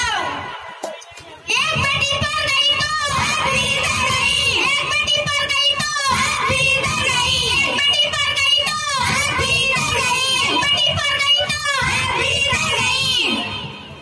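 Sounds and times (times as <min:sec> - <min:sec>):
girls singing over loudspeakers: 0:00.0 - 0:14.0.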